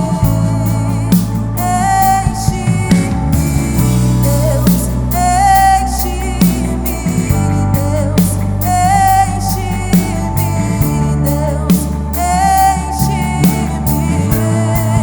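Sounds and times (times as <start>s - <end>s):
bass: 0.0s - 15.0s
drums: 0.0s - 15.0s
sustained keyboard chords: 0.0s - 15.0s
woman singing: 0.0s - 15.0s.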